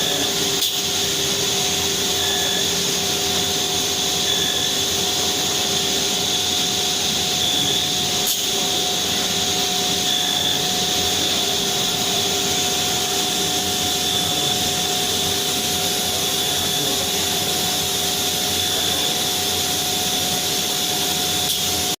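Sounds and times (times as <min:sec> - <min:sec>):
cnc machine whining: 0:00.0 - 0:22.0.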